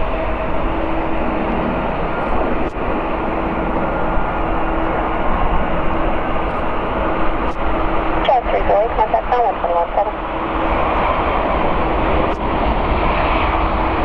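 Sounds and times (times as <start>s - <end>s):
jet engines on approach: 0.0s - 14.0s.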